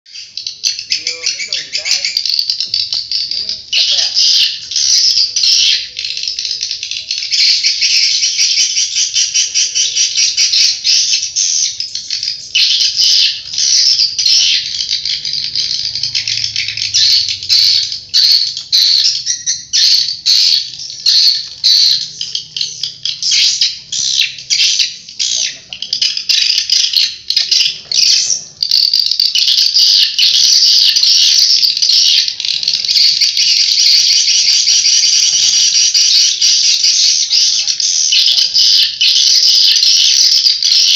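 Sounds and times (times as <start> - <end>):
high-pitched bird chirps over loudspeakers: 0.1 - 40.9.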